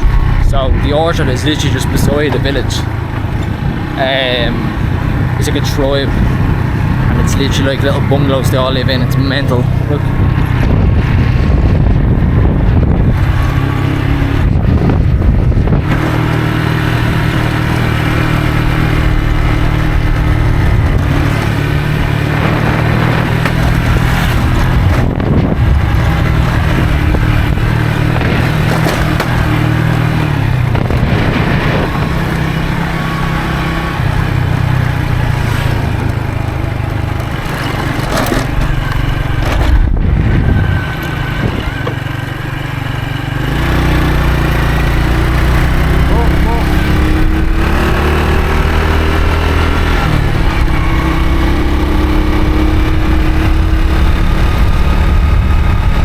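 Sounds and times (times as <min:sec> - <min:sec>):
moped engine running: 0:00.0 - 0:56.0
wind over microphone: 0:00.0 - 0:56.0.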